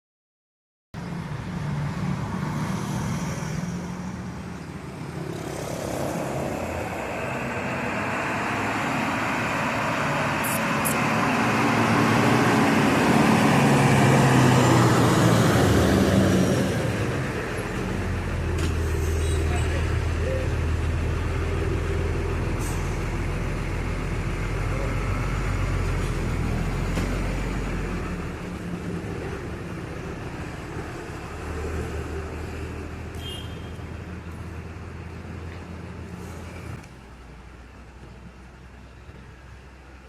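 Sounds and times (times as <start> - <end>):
vehicle engine roaring: 1.0 - 40.0.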